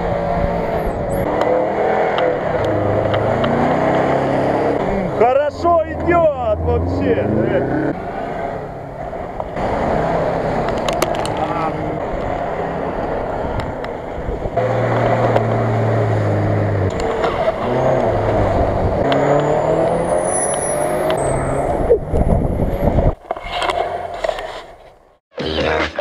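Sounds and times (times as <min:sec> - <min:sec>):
car engines revving high: 0:00.0 - 0:24.5.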